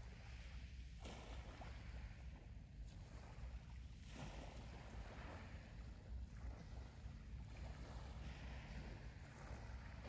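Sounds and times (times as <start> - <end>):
small waves washing over pebbles: 0.0 - 10.0.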